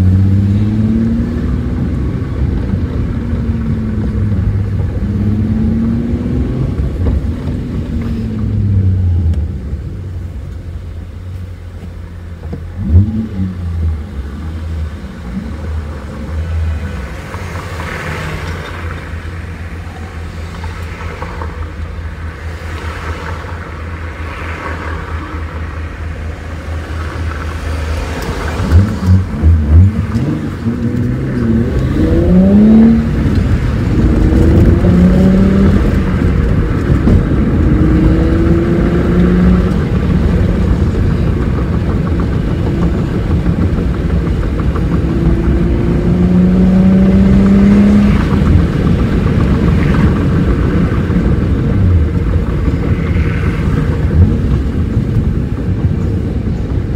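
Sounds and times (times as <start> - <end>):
car engine drone and revs: 0.0 - 56.9.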